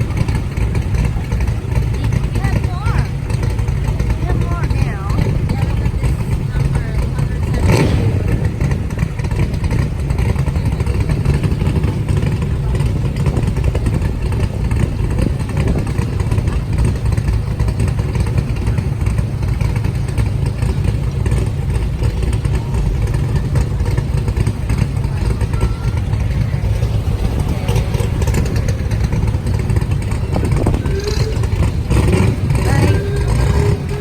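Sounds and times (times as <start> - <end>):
car engines running: 0.0 - 34.0.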